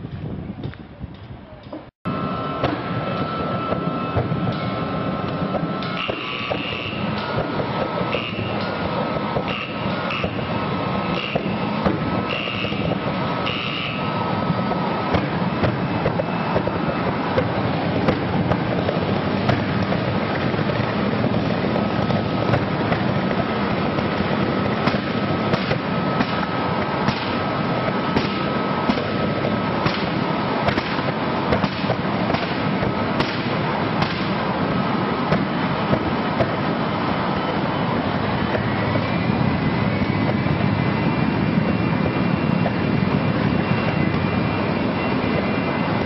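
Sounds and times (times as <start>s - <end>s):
high whine rising in pitch: 2.1s - 46.0s.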